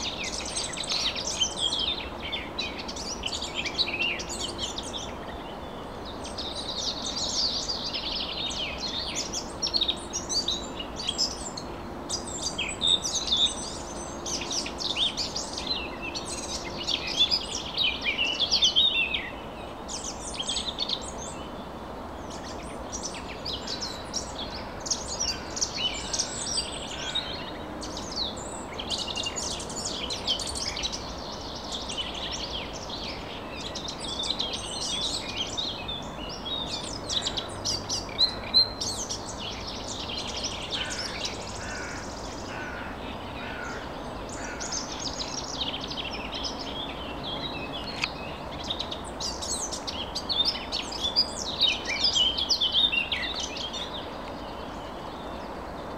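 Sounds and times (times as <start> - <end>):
birds chirping and trilling: 0.0 - 55.9.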